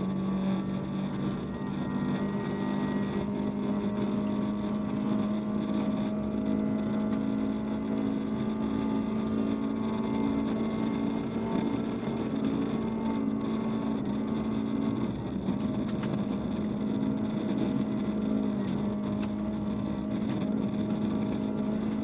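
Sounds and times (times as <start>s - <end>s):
car engine running hard: 0.0s - 22.0s
road noise rush: 0.0s - 22.0s.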